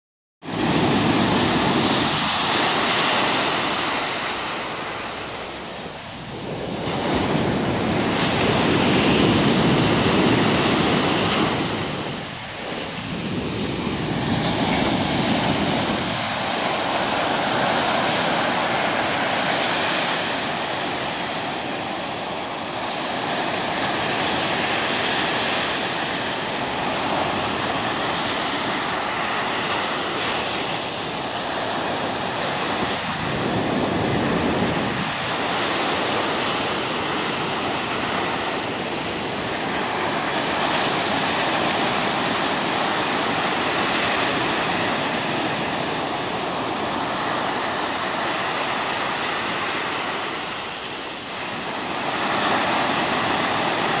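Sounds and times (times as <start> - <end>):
waves breaking on beach: 0.4 - 54.0.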